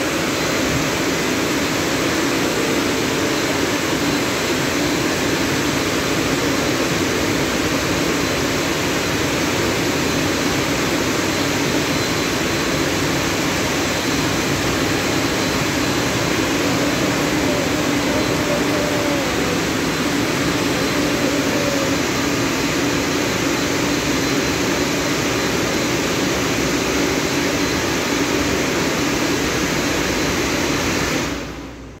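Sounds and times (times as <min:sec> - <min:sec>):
car wash dryer blowers: 0:00.0 - 0:32.0.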